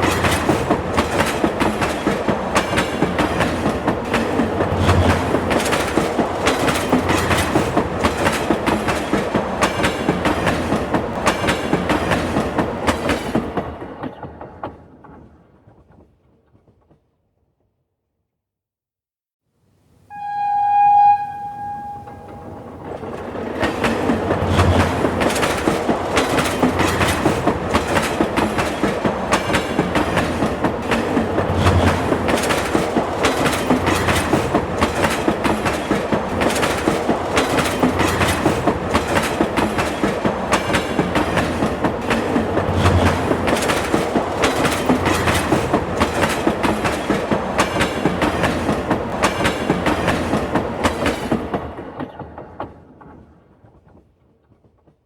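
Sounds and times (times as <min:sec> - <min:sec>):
train wheels clickety-clack: 0:00.0 - 0:17.2, 0:22.2 - 0:55.0.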